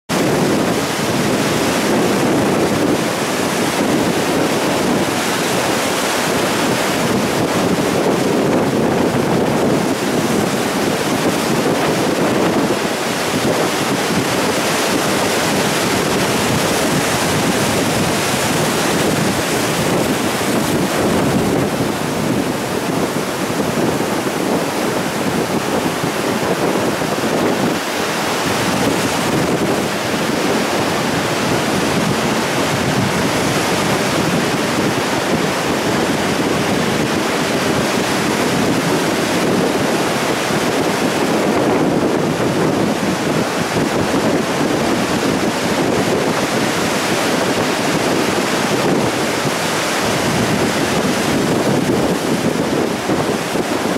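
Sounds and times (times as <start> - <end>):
ocean surf breaking on sand: 0.1 - 53.9.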